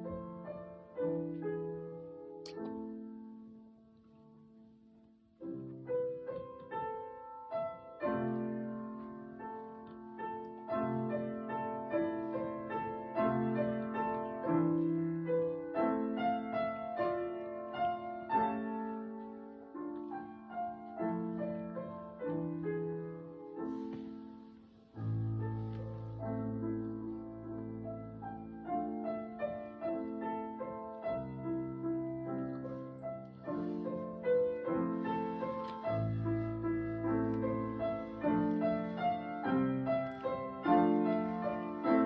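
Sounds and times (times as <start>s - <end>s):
slow classical piano chords: 0.0s - 42.0s.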